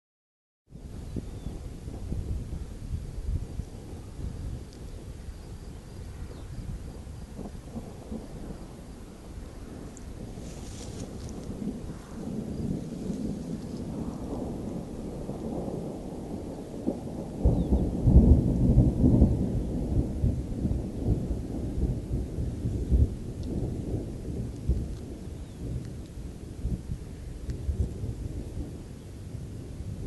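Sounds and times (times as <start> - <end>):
thunder rumbling: 0.8 - 30.0.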